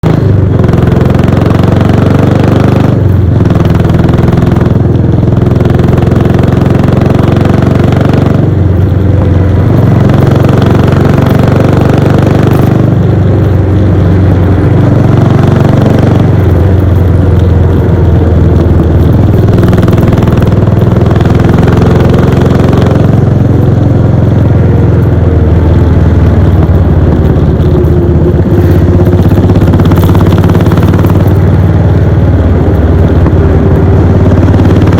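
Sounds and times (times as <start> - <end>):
motorcycle engine and exhaust: 0.0 - 34.9.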